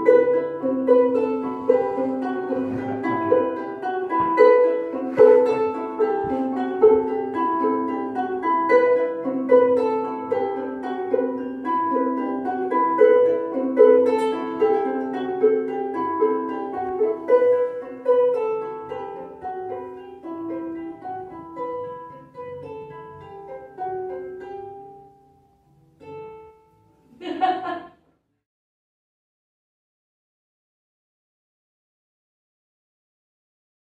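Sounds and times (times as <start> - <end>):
ukuleles plucking a tune: 0.0 - 27.8.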